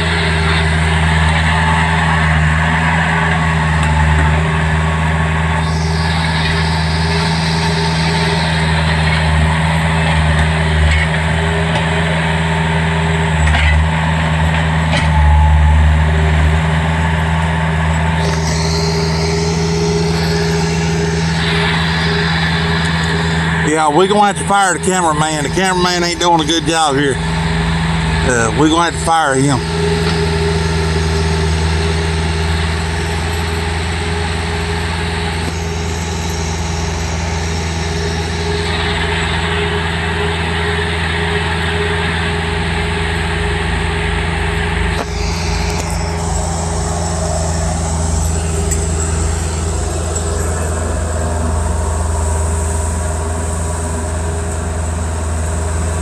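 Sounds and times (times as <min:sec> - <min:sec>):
loader diesel engine running: 0:00.0 - 0:56.0.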